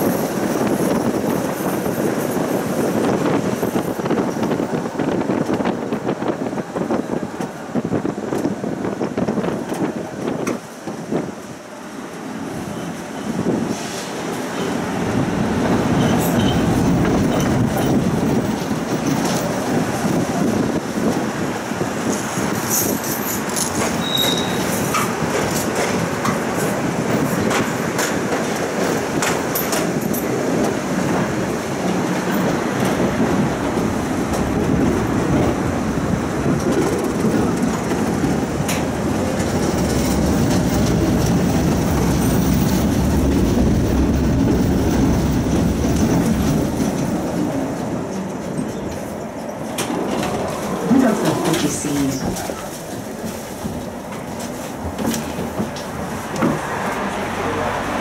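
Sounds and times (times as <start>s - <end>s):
tram wheels rumbling on track: 0.0s - 58.0s.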